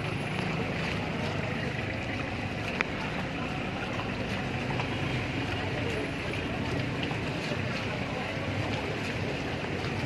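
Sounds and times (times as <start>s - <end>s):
street noise: 0.0s - 10.0s
vehicle engine running: 0.0s - 10.0s.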